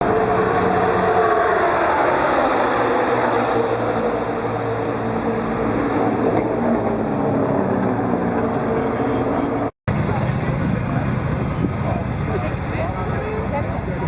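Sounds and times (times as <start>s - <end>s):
motor vehicle engine: 0.0s - 14.0s.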